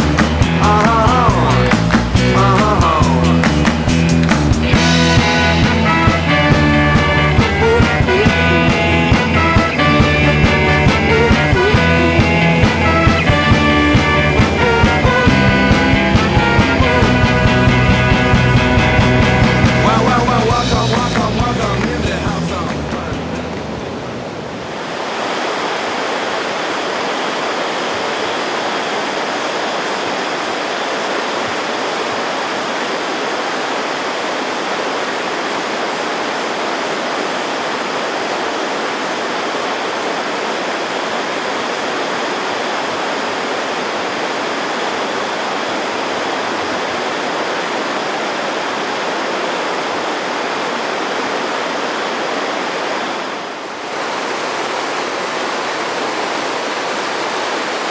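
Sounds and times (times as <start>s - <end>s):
rushing river water: 0.0s - 57.9s.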